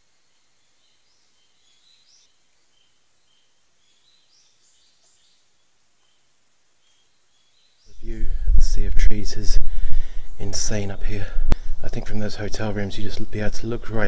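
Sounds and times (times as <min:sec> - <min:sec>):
faint birdsong chirps: 0:00.0 - 0:14.0.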